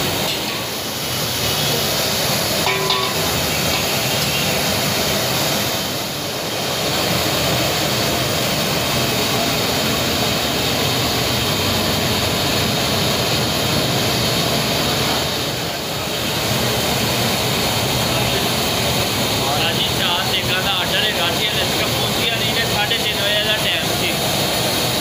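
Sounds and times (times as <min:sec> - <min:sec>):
gas burner flames roaring: 0:00.0 - 0:25.0.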